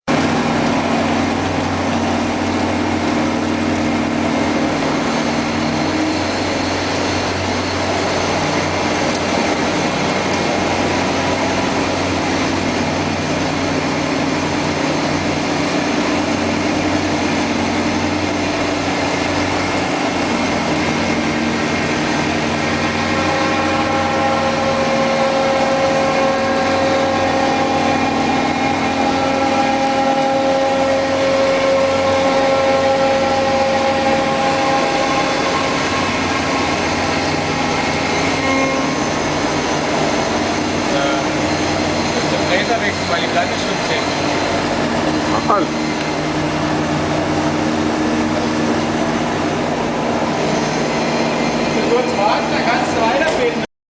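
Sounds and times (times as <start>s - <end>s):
milling machine humming and whining: 0.1s - 53.6s.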